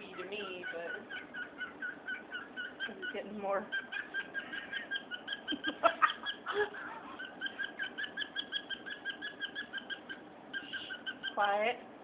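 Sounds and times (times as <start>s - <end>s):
cockatiel chirping: 0.0s - 11.7s.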